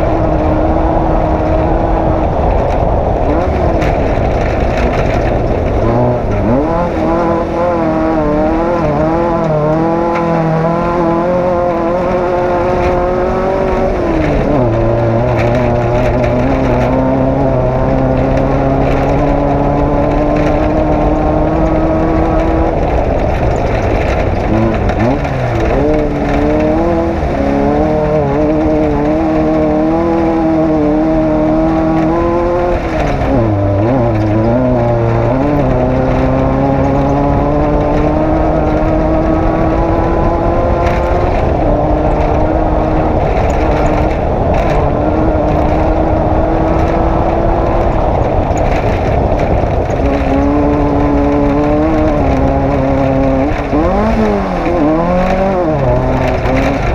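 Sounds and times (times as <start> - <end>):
race vehicle engine running hard: 0.0 - 56.9.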